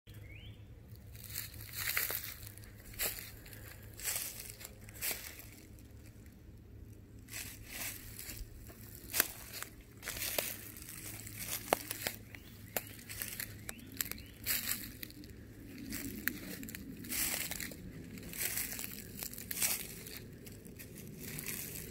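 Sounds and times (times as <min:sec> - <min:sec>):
twigs cracking: 0:00.9 - 0:06.3, 0:07.2 - 0:21.9
footsteps crunching through dry leaves: 0:00.9 - 0:21.9.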